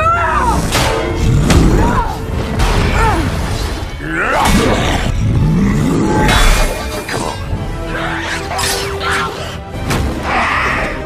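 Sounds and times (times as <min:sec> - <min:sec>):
dramatic score music: 0:00.0 - 0:11.0.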